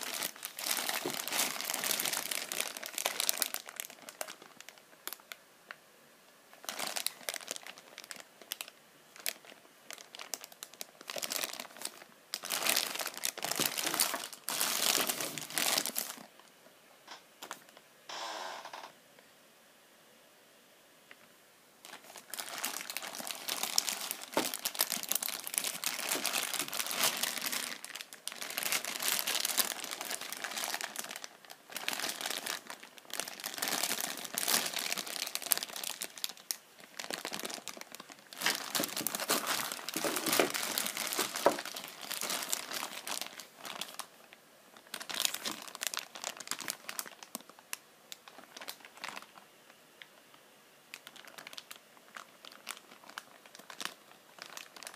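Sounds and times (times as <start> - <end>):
plastic bags crinkling: 0.0 - 5.4, 6.5 - 16.5, 17.4 - 17.8, 21.8 - 49.4, 50.9 - 54.9.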